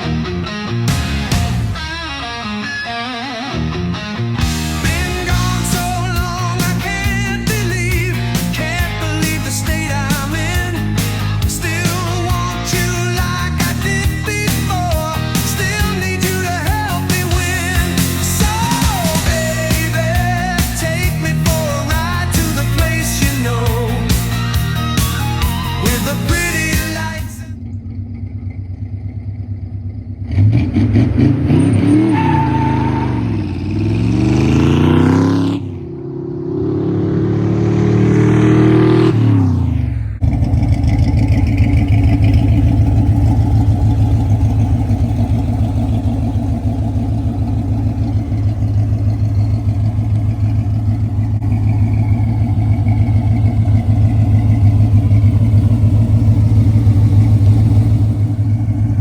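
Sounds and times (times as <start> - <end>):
car engine idling and revving: 0.0 - 2.6, 3.6 - 59.0.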